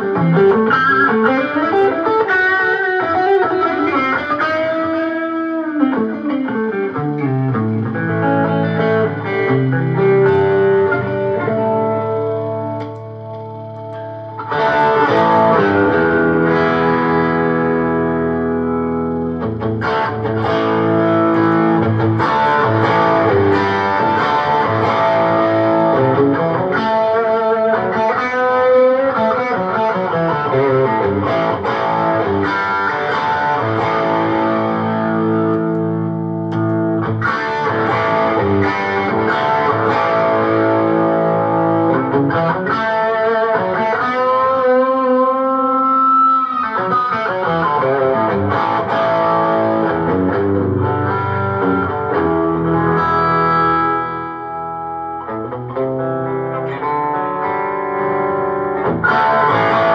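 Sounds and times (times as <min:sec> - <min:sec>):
electric guitar chords and lines: 0:00.0 - 0:59.9.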